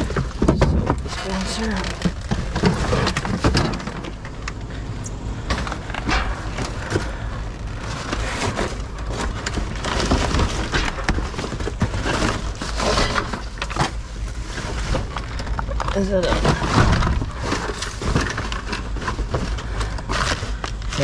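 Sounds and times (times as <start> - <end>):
trash rummaged in dumpster: 0.0 - 21.0.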